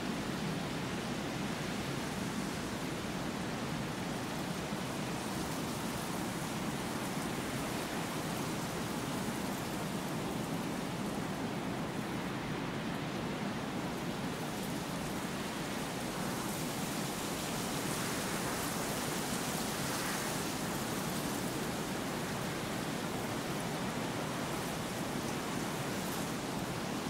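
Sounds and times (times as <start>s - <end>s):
wind through dry grass: 0.0s - 27.0s.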